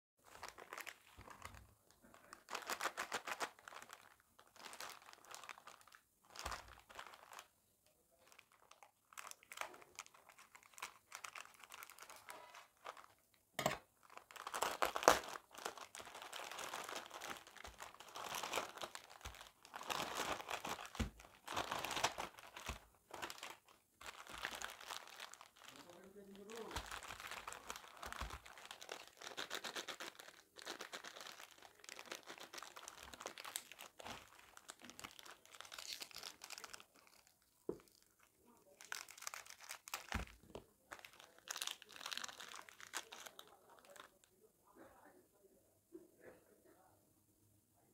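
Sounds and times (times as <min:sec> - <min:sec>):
wrapper tearing open: 0:00.2 - 0:01.6, 0:02.2 - 0:07.5, 0:08.2 - 0:44.2
plastic and foil rustling: 0:00.2 - 0:07.5, 0:08.1 - 0:44.2
plastic wrapper crinkling: 0:00.2 - 0:44.3.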